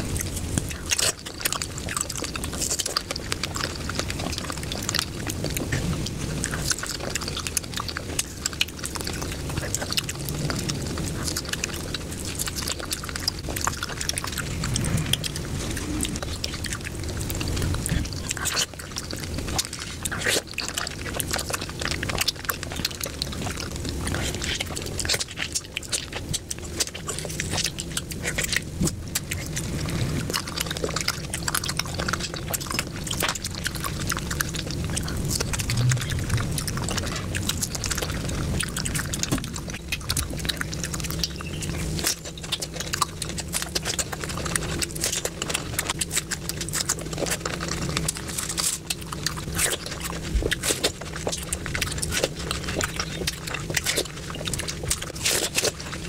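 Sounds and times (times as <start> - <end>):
fruit crunching and chewing: 0.0 - 56.0
steady low hum: 0.0 - 56.0.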